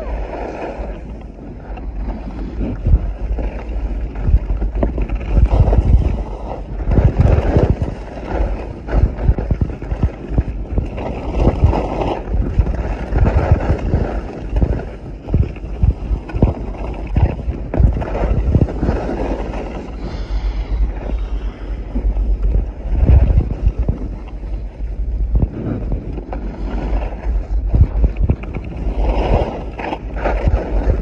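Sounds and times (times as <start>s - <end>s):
skis scraping on snow: 0.0s - 31.0s
wind buffeting microphone: 0.0s - 31.0s.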